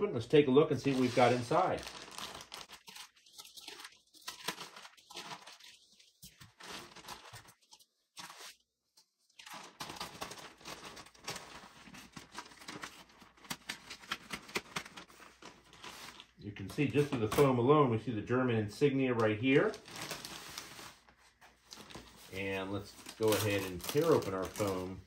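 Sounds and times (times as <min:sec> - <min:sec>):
packaging tearing and crinkling: 0:00.7 - 0:08.6, 0:09.3 - 0:16.4, 0:19.6 - 0:25.0.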